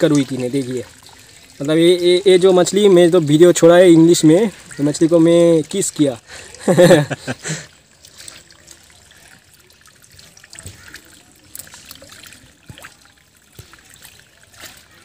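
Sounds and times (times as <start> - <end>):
light water splashes: 0.0 - 15.0
water trickling and dripping: 0.0 - 15.0.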